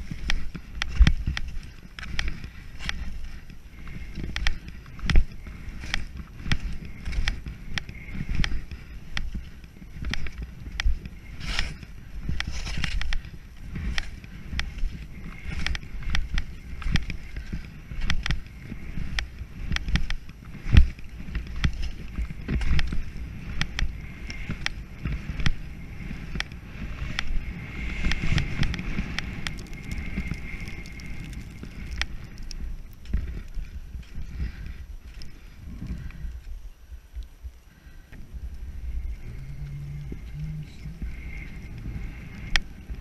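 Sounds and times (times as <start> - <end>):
skis scraping over snow: 0.0 - 36.2
wind rumble on microphone: 0.0 - 43.0.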